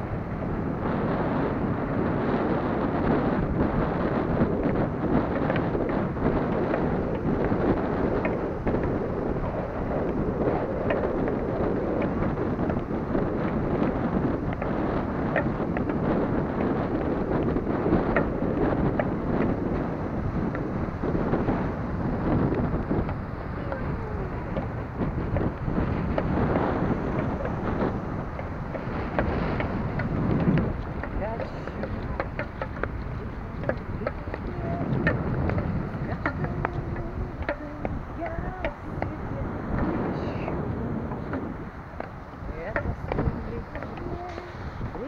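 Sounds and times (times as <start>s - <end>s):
small waves washing over sand: 0.0s - 45.0s
wind buffeting microphone: 0.0s - 45.0s.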